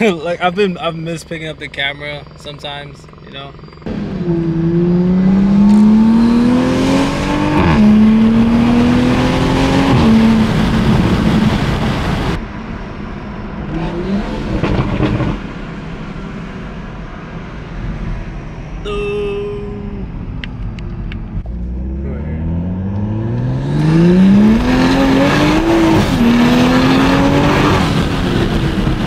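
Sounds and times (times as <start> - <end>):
car engine accelerating hard: 0.0 - 12.4, 13.5 - 17.3, 21.3 - 29.0.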